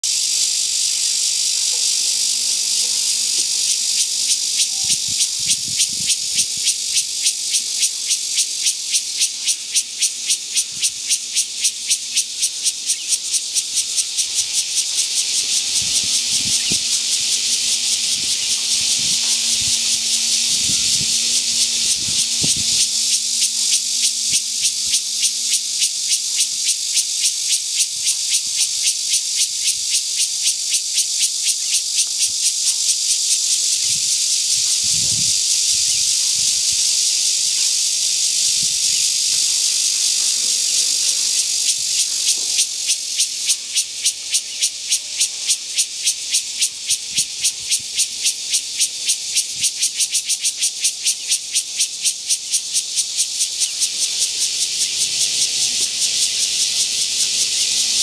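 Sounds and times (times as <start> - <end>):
cicada buzzing: 0.0 - 58.0.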